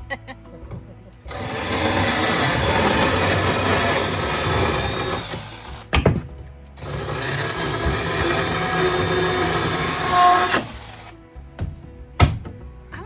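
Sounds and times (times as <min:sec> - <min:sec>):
power saw cutting: 0:00.7 - 0:12.4.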